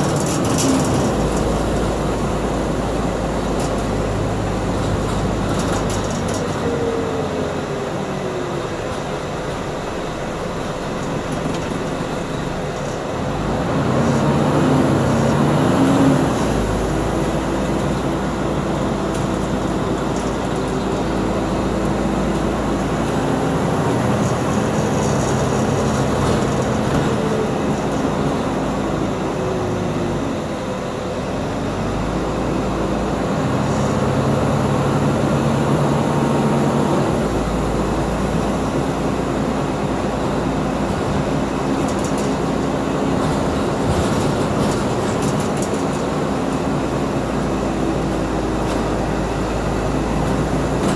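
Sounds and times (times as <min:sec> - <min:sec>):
bus engine drone with whining: 0:00.0 - 0:50.9.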